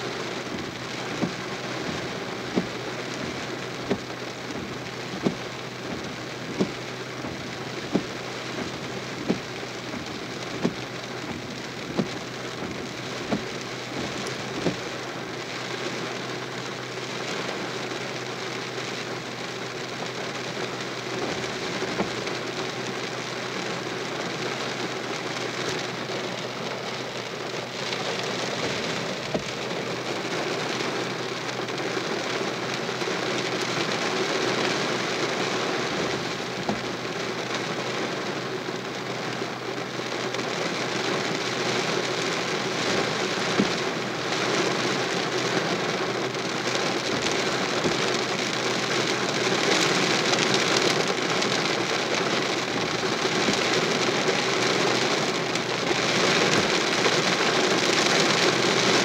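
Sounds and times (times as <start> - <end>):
rain on vehicle roof: 0.0 - 59.0.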